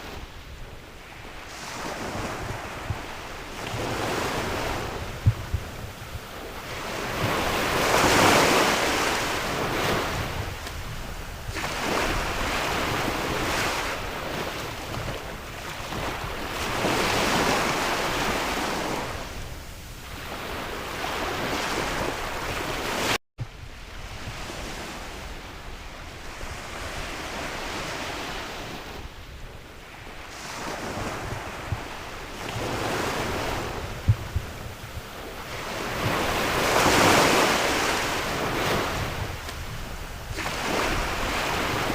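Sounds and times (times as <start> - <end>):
wind blowing over microphone: 0.0 - 41.9
sea waves breaking: 1.0 - 23.2, 29.8 - 41.9.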